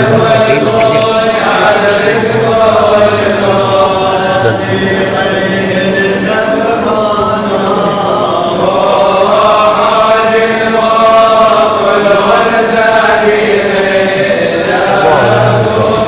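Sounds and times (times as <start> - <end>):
voices chanting a slow hymn: 0.0 - 16.0.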